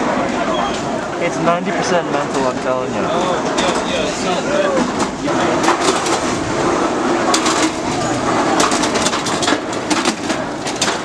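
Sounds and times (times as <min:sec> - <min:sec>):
murmur of voices: 0:00.0 - 0:09.1
sleds clattering on steel chute: 0:00.0 - 0:11.0.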